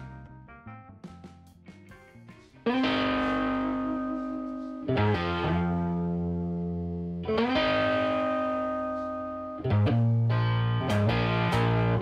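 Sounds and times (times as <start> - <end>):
electric guitar chords: 0.0 - 12.0
picked guitar strokes: 1.9 - 12.0.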